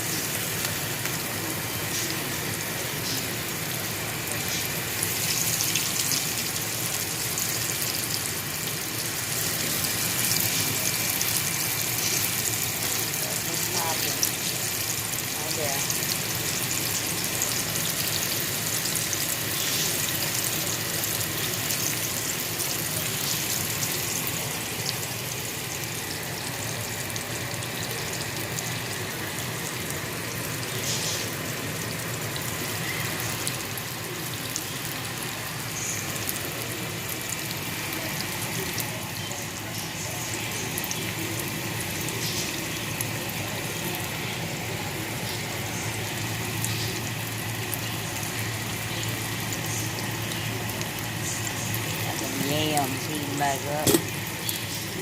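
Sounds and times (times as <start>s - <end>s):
tomato slices sizzling in oil: 0.0s - 55.0s.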